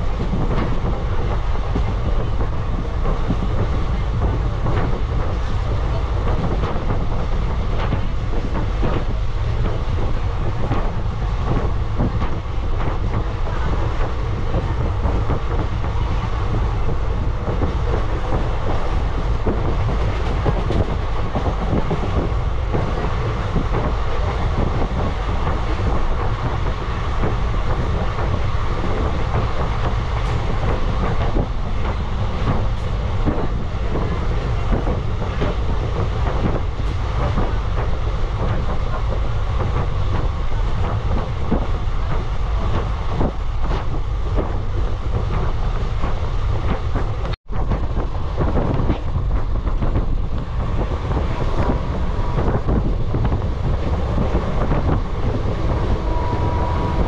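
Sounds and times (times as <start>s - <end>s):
train wheel clicks: 0.0s - 57.0s
train wheels rumbling on rail: 0.0s - 57.0s.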